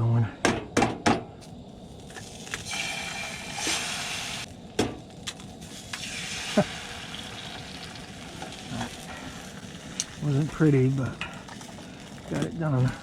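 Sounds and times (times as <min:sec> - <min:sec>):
eggs sizzling in a pan: 0:01.5 - 0:13.0.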